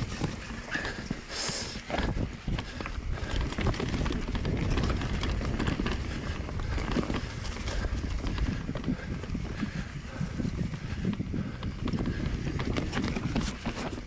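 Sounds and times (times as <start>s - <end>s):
mountain bike rattling over trail: 0.0s - 14.0s.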